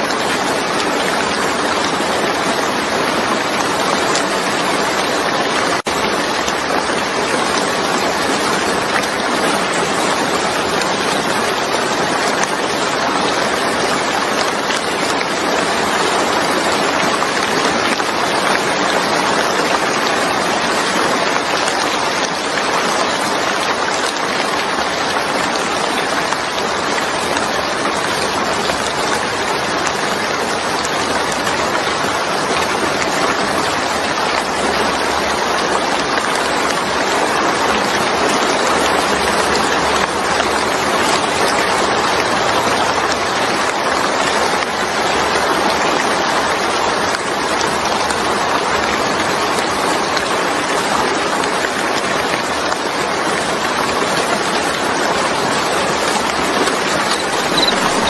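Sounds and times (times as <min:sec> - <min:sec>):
steady rain on wet surface: 0:00.0 - 0:58.0.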